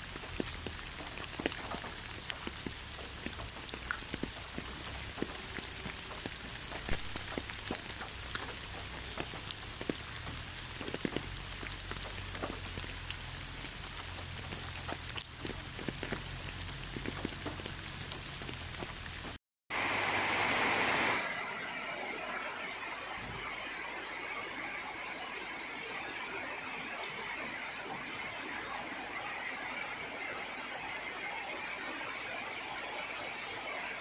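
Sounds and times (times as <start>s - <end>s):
rain drops tapping: 0.0s - 34.0s.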